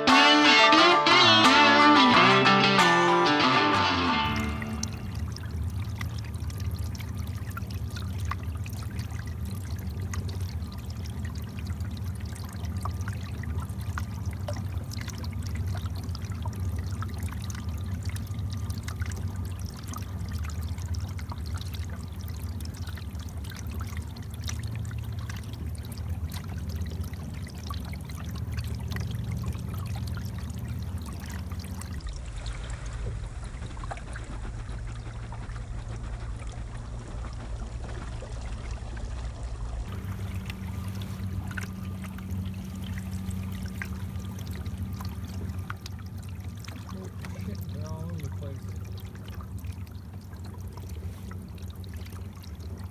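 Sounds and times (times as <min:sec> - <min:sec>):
water lapping against canoe hull: 0:03.7 - 0:52.9
steady low rumble: 0:04.2 - 0:52.9.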